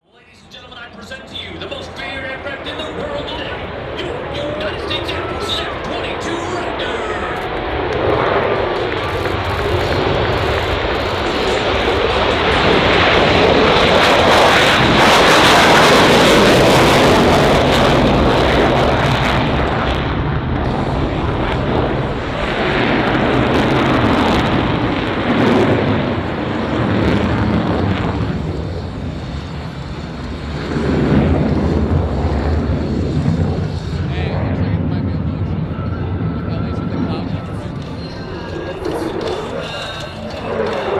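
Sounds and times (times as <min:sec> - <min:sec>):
jet engine rushing: 0:00.4 - 0:40.9.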